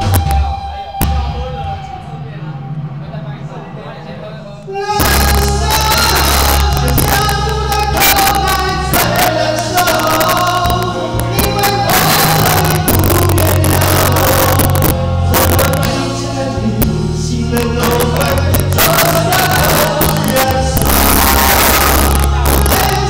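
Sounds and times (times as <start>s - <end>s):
worship song with drums and bass: 0.0s - 3.0s, 4.7s - 23.0s.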